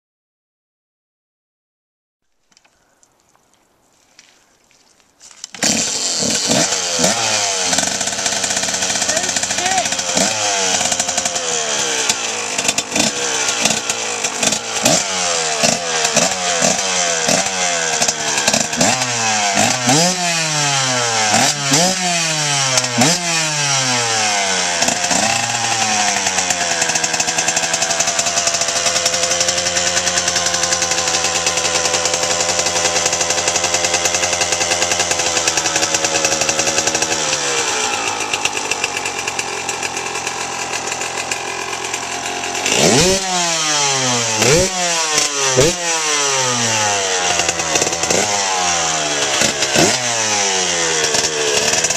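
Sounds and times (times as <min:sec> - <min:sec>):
two-stroke engine revving and idling: 0:05.5 - 0:51.9.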